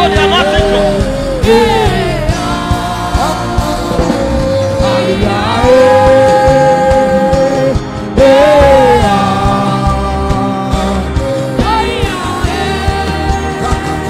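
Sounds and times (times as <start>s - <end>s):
drums: 0.0s - 14.0s.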